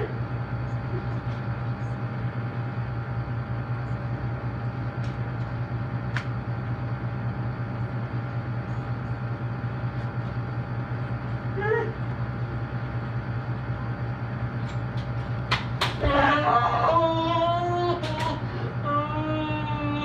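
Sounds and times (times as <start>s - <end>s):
air conditioner running: 0.0s - 20.0s.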